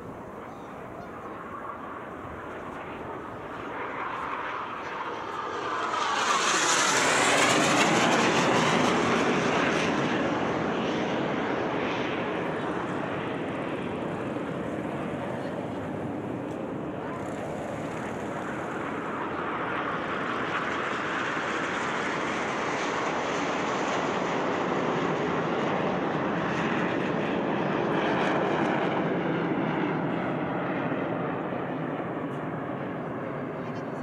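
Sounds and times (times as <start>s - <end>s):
jets flying past overhead: 0.0s - 34.0s.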